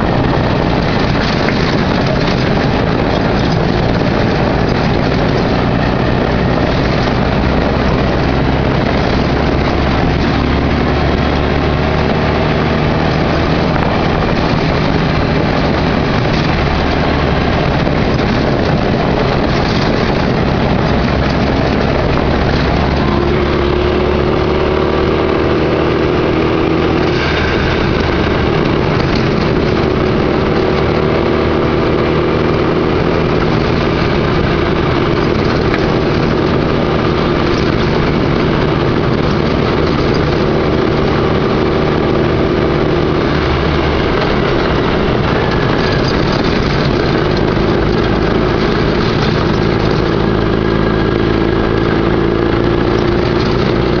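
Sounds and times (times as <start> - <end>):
constant rushing noise: 0.0 - 54.0
vehicle engine running under load: 0.0 - 54.0.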